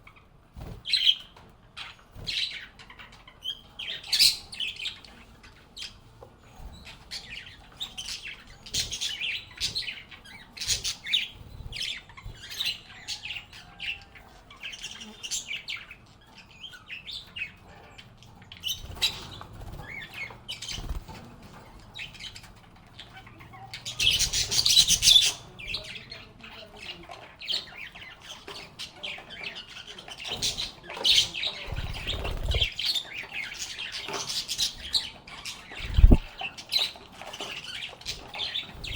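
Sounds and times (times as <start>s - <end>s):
lovebirds chirping and chattering: 0.0s - 38.9s.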